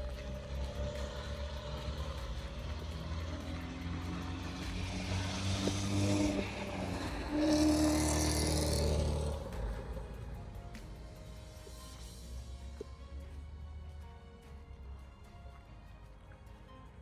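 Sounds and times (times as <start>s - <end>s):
vehicle driving past: 0.0s - 13.9s.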